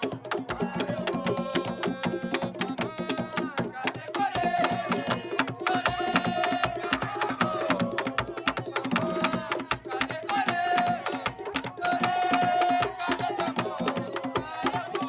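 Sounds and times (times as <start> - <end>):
music with hand percussion: 0.0 - 15.0.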